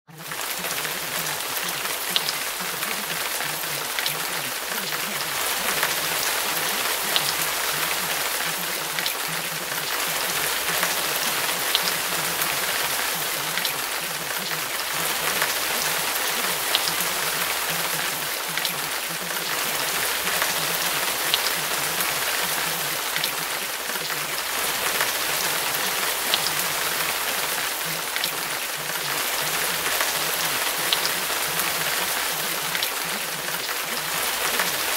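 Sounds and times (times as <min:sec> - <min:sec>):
rain on hard surface: 0:00.1 - 0:34.9
raindrop ticks: 0:00.1 - 0:34.9.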